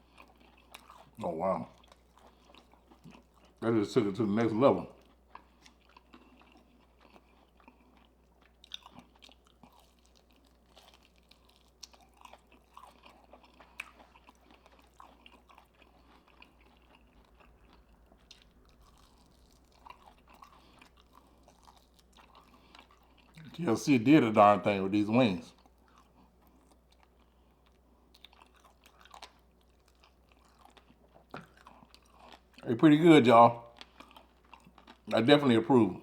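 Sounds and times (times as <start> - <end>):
person chewing fried chicken: 0.0 - 24.0, 25.2 - 33.0, 33.6 - 36.0.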